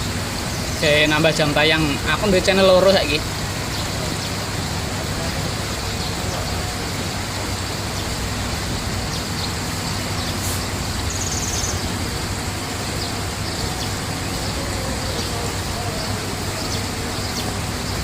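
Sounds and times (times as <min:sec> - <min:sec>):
rushing water-like noise: 0:00.0 - 0:18.0.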